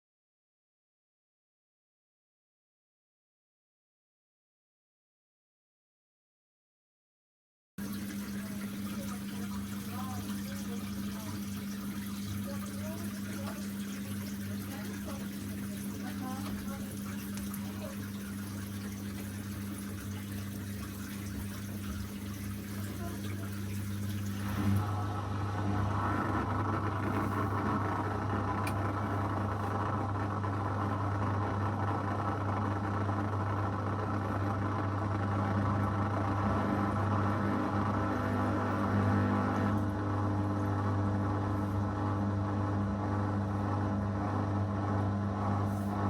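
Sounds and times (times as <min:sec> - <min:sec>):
washing machine running: 0:07.8 - 0:46.0.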